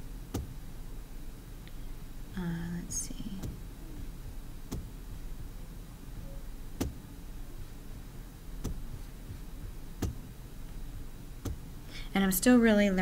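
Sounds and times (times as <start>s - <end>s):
faint low steady hum: 0.0s - 13.0s.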